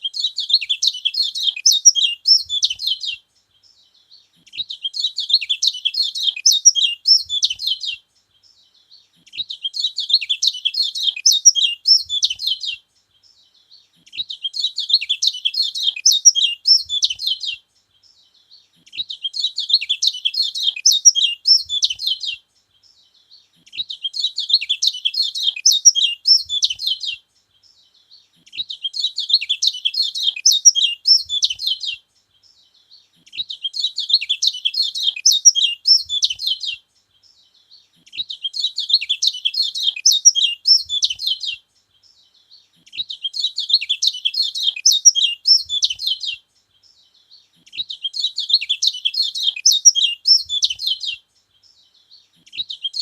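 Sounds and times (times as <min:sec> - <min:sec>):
bird twittering song: 0:00.0 - 0:53.0.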